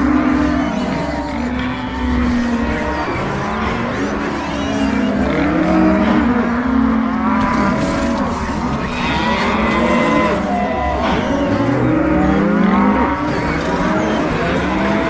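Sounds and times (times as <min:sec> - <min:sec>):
stomach growls: 0:00.0 - 0:15.0.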